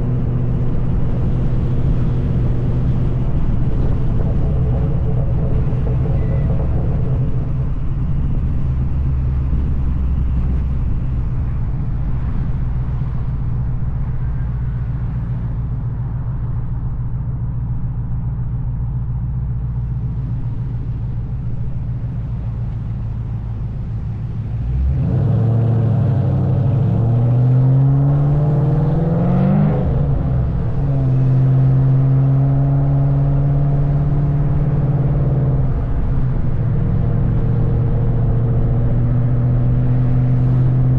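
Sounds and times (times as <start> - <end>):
car engine revving: 0.0 - 18.8, 19.5 - 40.9.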